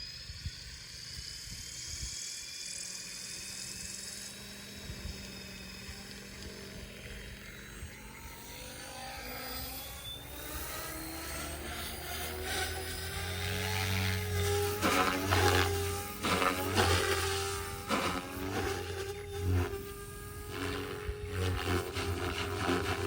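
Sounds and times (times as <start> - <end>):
electric helicopter motor whining: 0.0 - 23.0.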